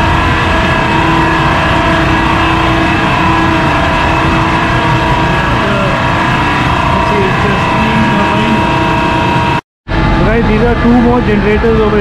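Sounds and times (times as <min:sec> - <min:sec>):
generator machinery rumble: 0:00.0 - 0:12.0
high-pitched machinery whine: 0:00.0 - 0:12.0.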